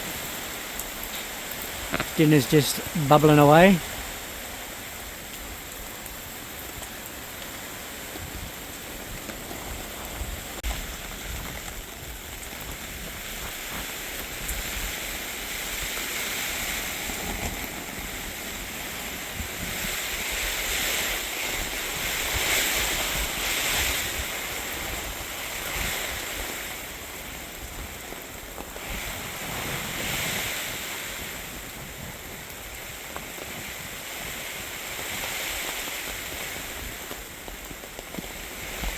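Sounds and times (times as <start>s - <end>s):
steady rain falling: 0.0s - 38.9s
wind gusts: 0.0s - 38.9s.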